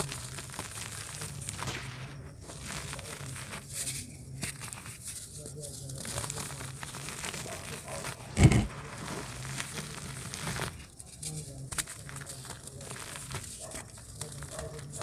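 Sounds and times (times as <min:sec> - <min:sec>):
dirt clods crumbling: 0:00.0 - 0:15.0.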